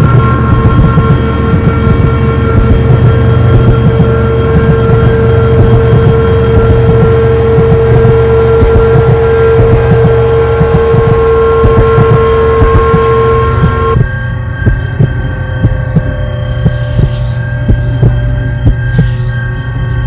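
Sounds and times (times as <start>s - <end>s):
constant humming tone: 0.0s - 20.0s
deep rumbling drone: 0.0s - 20.0s.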